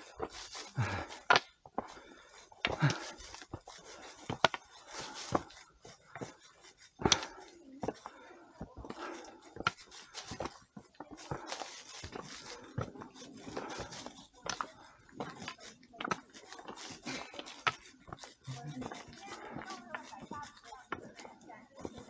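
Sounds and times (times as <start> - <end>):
footsteps on trail: 0.0 - 22.0.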